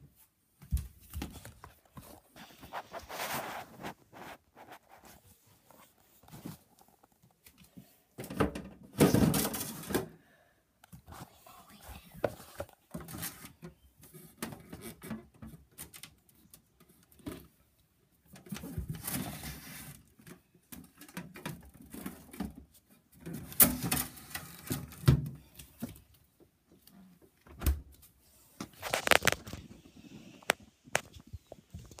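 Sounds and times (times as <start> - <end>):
items rustling and clicking in fridge: 0.6 - 10.2, 10.9 - 32.0.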